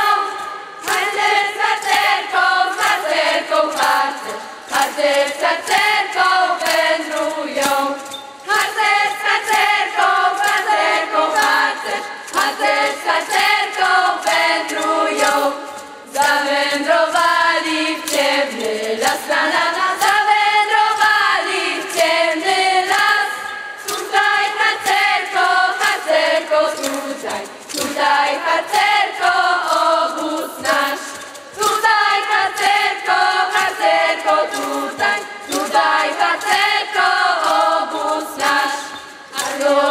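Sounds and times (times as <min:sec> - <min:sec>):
group singing: 0:00.0 - 0:39.9
steady beat: 0:00.0 - 0:39.9.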